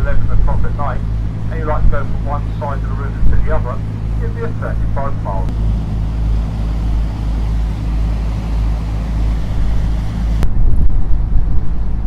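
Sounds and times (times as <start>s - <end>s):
wind on microphone: 0.0s - 4.2s, 5.5s - 12.0s
boat engine droning: 0.0s - 12.0s.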